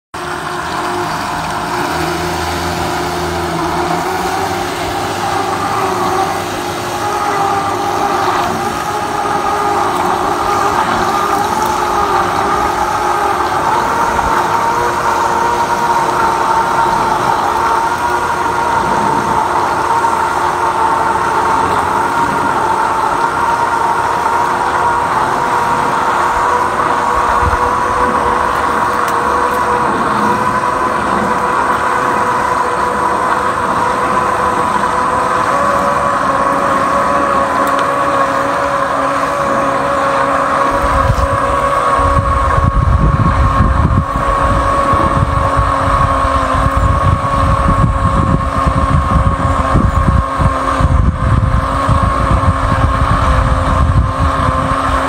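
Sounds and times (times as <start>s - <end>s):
motor drone with rising whine: 0.0s - 55.0s.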